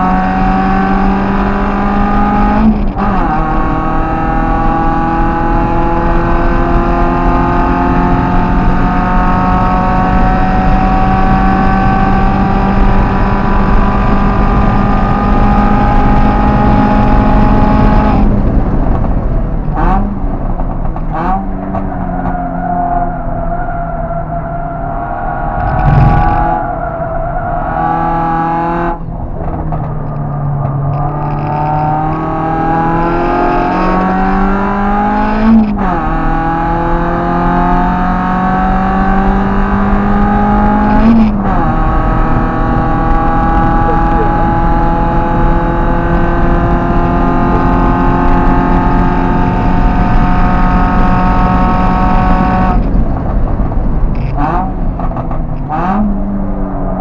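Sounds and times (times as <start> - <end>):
car engine revving at full throttle: 0.0 - 57.0.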